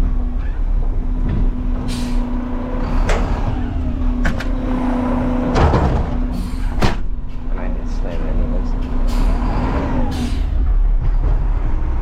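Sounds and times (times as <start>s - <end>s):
garbage truck engine and hydraulics: 0.0s - 12.0s
metal dumpster banging: 0.3s - 12.0s.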